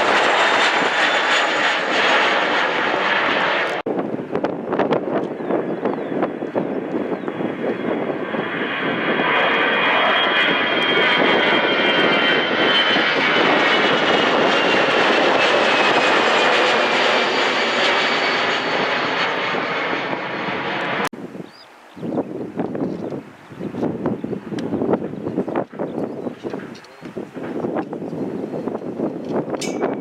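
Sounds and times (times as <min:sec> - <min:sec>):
jet engines roaring: 0:00.0 - 0:21.1, 0:22.1 - 0:30.0
high jet engine whine: 0:00.0 - 0:30.0.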